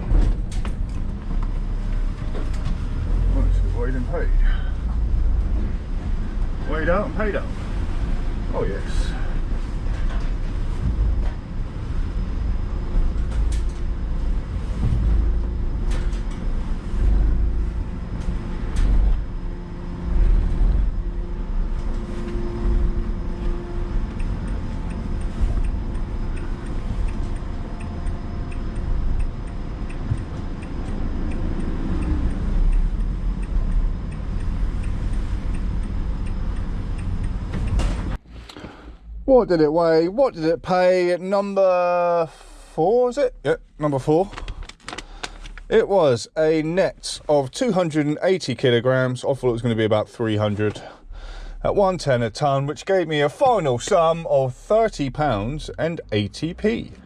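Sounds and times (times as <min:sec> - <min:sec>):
van engine and road noise: 0:00.0 - 0:57.0.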